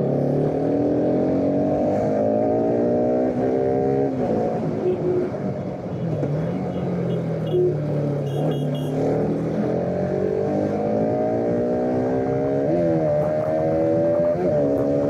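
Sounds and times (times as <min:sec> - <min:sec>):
motorcycle engine revving: 0:00.0 - 0:05.0, 0:06.5 - 0:15.0.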